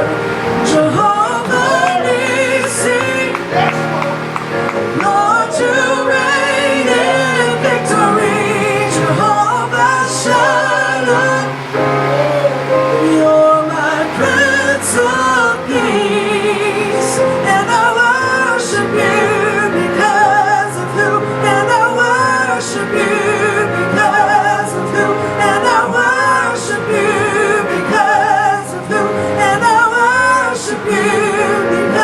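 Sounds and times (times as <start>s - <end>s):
congregation singing with vibrato: 0.0s - 32.0s.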